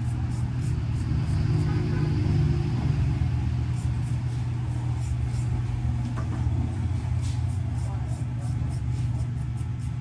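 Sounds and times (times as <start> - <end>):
low mechanical rumble: 0.0 - 10.0.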